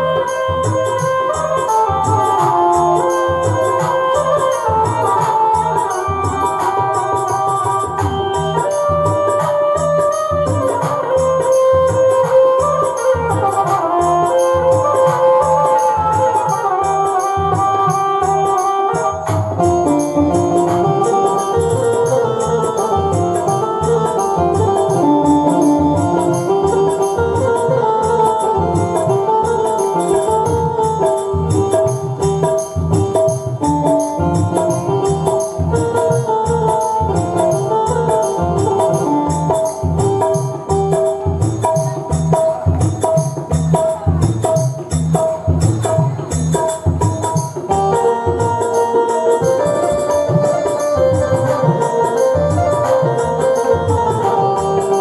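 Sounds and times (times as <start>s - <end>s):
hand percussion beat: 0.0s - 55.0s.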